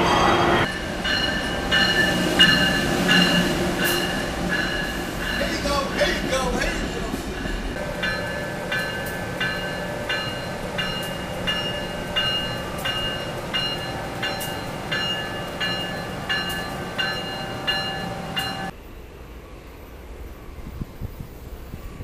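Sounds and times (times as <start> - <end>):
train running past: 0.0 - 22.0
bell ringing: 0.3 - 18.7.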